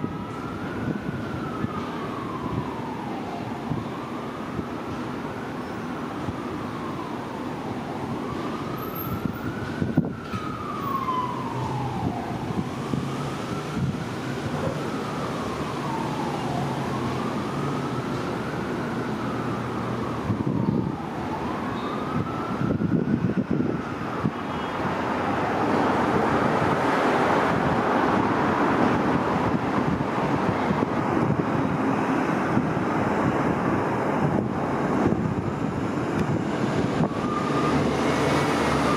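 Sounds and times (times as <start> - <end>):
wind noise on microphone: 0.0 - 5.4, 6.1 - 38.9
siren wailing: 0.0 - 38.9.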